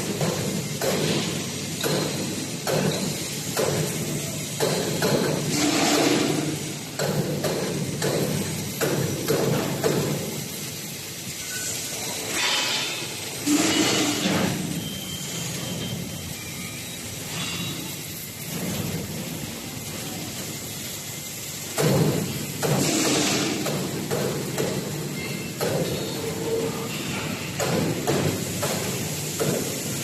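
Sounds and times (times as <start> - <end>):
mechanical clattering and knocks: 0.0 - 16.4, 17.1 - 30.0.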